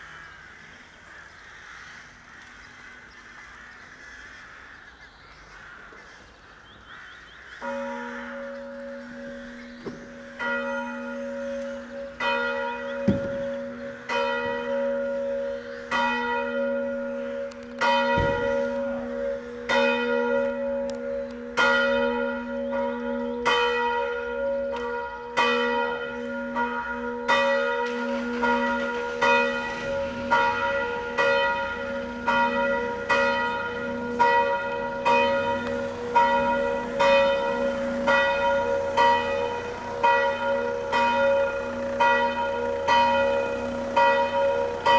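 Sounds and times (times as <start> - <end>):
church bell ringing: 7.4 - 44.9.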